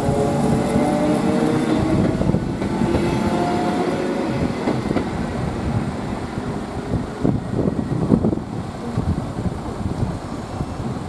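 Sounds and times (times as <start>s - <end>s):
wheels clacking over rail joints: 0.0s - 10.2s
train wheels rumbling on rail: 0.0s - 11.0s.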